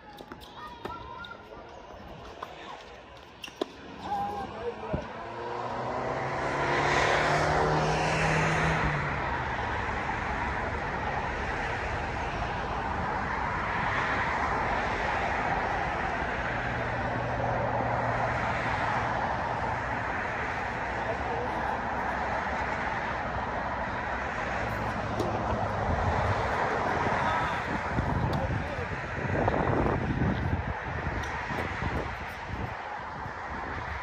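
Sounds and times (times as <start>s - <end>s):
vehicle engine passing: 3.8s - 34.0s.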